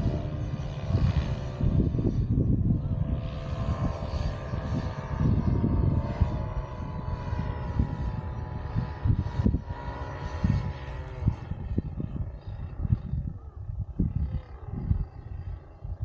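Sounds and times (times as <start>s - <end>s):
paramotor engine overhead: 0.0s - 16.0s
wind buffeting microphone: 0.0s - 16.0s.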